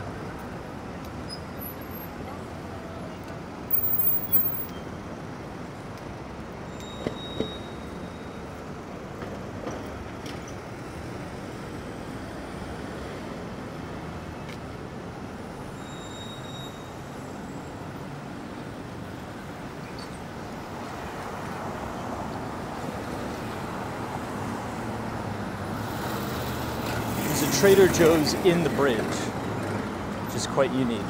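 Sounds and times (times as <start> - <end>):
city street traffic: 0.0 - 31.0.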